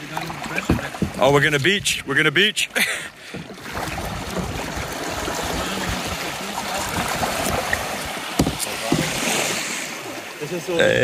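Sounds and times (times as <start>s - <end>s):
seawater lapping at beach: 0.0s - 11.0s.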